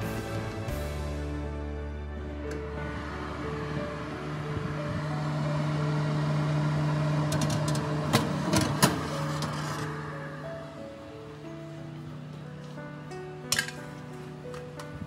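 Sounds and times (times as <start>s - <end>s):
soft background music: 0.0s - 15.0s
fan oven whirring hum: 1.5s - 15.0s.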